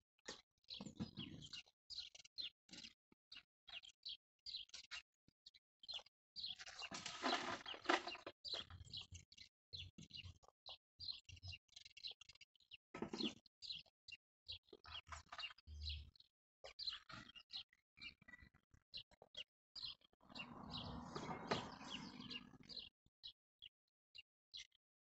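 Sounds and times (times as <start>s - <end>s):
small birds chirping: 0.2s - 24.8s.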